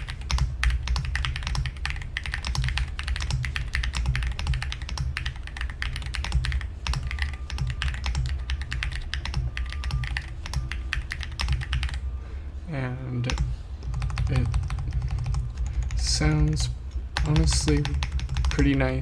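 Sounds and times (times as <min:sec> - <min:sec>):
mechanical keyboard typing: 0:00.0 - 0:12.0, 0:13.3 - 0:16.0, 0:17.2 - 0:18.8
low hum: 0:00.0 - 0:19.0.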